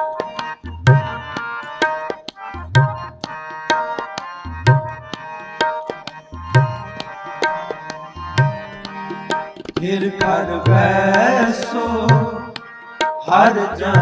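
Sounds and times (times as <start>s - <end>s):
harmonium melody: 0.0s - 14.0s
tabla playing: 0.0s - 14.0s.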